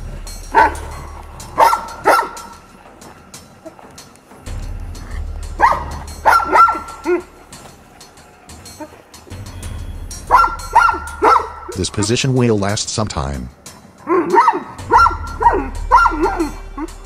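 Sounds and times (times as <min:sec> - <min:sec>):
dogs barking and yelping: 0:00.0 - 0:09.4, 0:10.2 - 0:12.2, 0:14.0 - 0:17.0
background music: 0:00.0 - 0:17.0.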